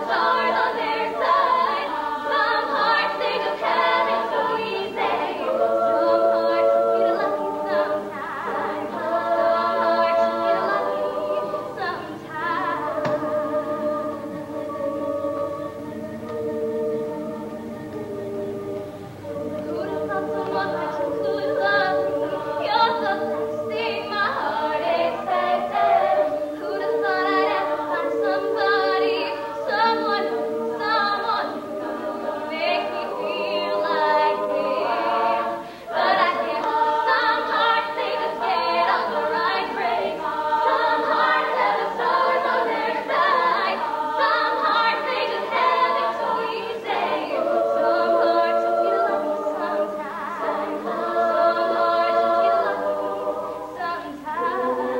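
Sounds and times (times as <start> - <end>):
female a cappella group singing: 0.0 - 54.9.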